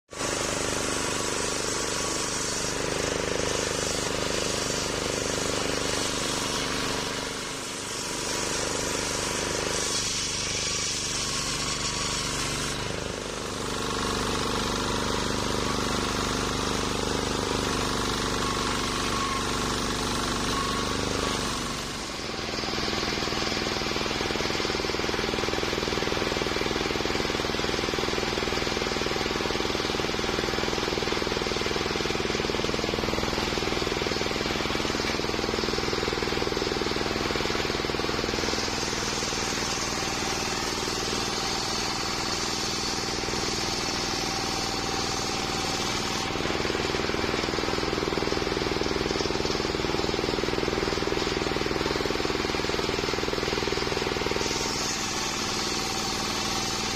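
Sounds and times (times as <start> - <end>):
circular sawmill sawing log: 0.1 - 56.9.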